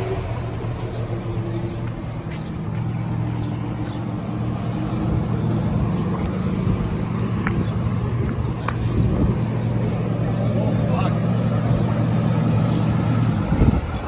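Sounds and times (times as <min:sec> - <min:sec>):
truck diesel engine idling: 0:00.0 - 0:14.0.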